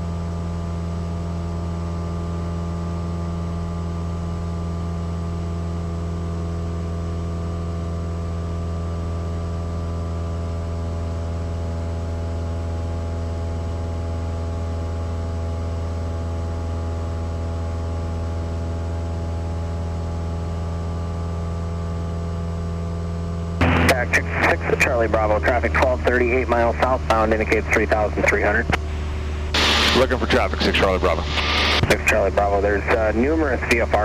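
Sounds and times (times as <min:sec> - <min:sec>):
airplane engine drone in flight: 0:00.0 - 0:34.0.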